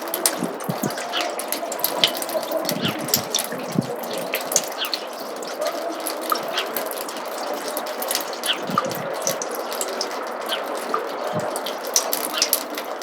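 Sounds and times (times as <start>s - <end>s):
water dripping in gutter: 0.0s - 13.0s
water trickling: 0.0s - 13.0s.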